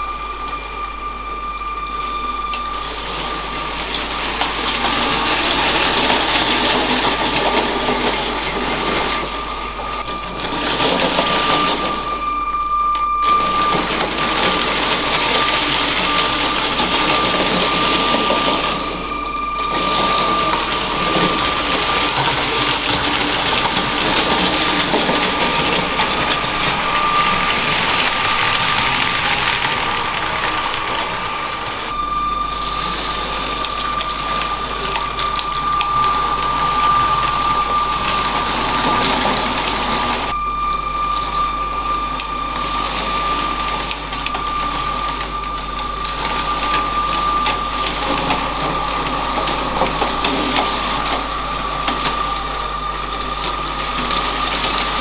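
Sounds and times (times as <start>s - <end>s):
thin whine: 0.0s - 55.0s
toy train motor whirring rattle: 1.9s - 12.3s, 12.9s - 40.4s, 41.0s - 55.0s.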